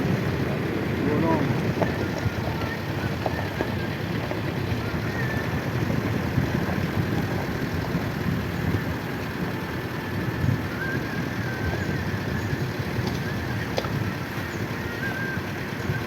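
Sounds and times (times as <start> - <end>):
rough off-road vehicle engine: 0.0 - 16.0.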